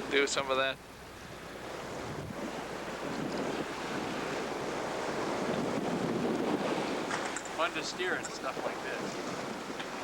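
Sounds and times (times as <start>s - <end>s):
sea water rushing along hull: 0.0s - 10.0s
wind buffeting microphone: 1.2s - 10.0s.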